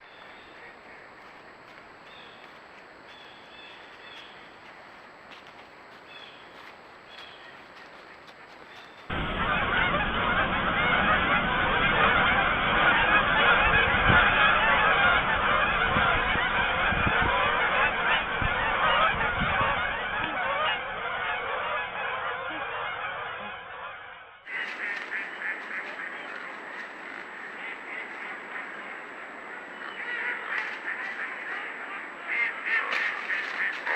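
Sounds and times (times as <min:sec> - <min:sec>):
flock of geese honking: 0:00.0 - 0:33.9.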